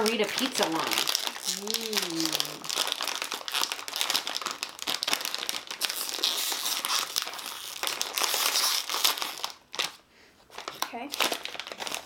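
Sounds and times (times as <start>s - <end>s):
plastic chip bag crinkling: 0.0s - 12.0s.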